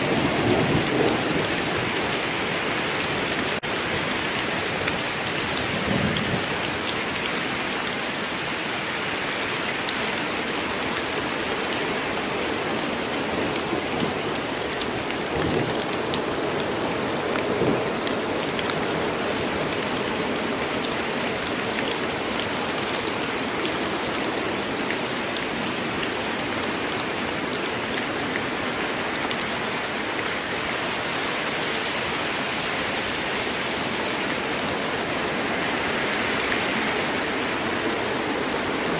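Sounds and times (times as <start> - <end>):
heavy rain in forest: 0.0 - 38.9.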